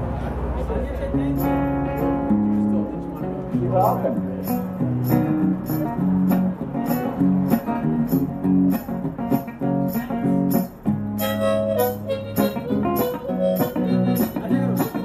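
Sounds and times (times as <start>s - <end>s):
acoustic guitar strumming: 1.2s - 15.0s.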